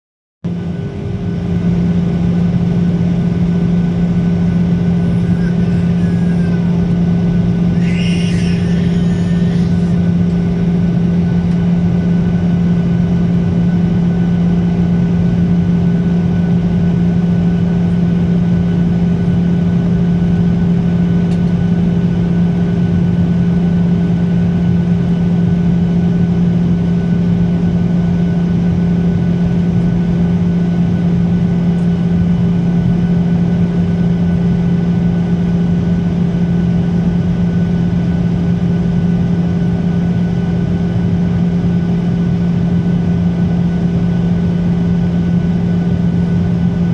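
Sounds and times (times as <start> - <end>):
airplane engine drone: 0.4 - 46.9.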